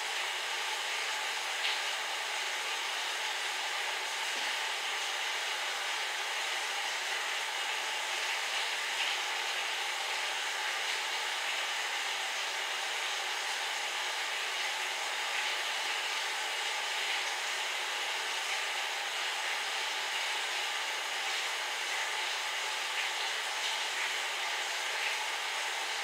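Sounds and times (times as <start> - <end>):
electric fan hiss: 0.0 - 26.0.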